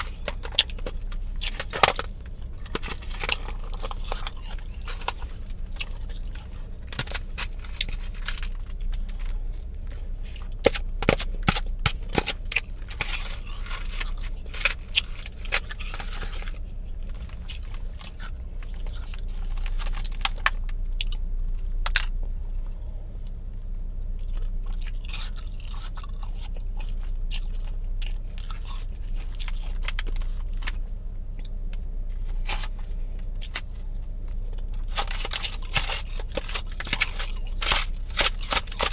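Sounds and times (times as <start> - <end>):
mouth chewing crunchy ice: 0.0 - 38.9.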